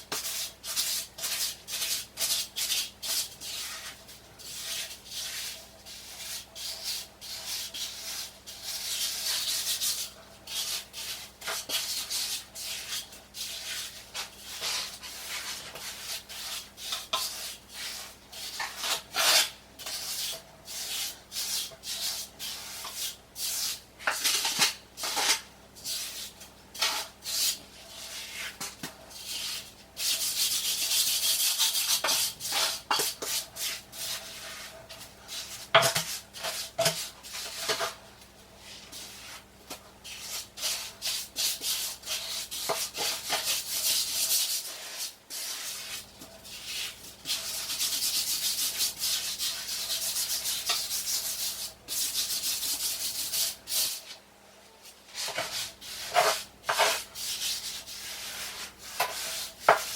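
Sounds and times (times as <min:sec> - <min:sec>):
trowel scraping mortar: 0:00.1 - 0:38.0, 0:38.6 - 0:54.1, 0:55.1 - 0:59.9.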